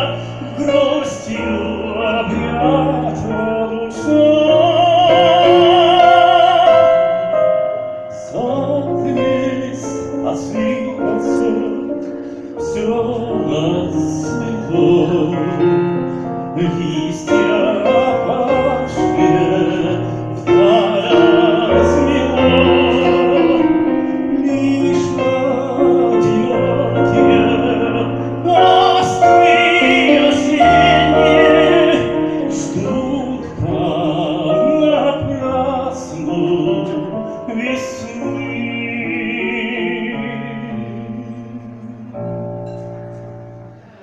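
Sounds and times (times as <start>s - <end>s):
operatic singing with vibrato: 0.0s - 42.7s
piano accompaniment: 0.0s - 44.0s.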